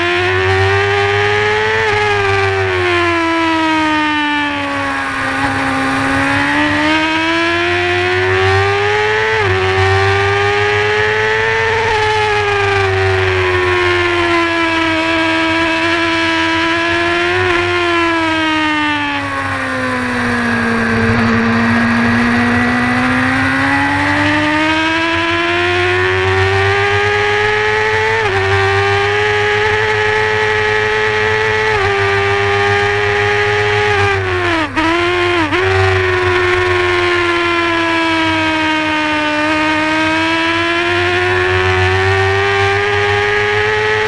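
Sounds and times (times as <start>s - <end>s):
racing motorcycle engine revving: 0.0s - 44.0s.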